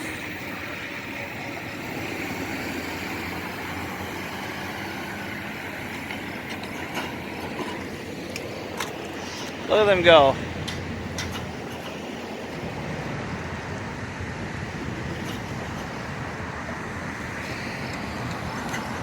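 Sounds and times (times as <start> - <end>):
diesel locomotive engine: 0.0 - 19.0.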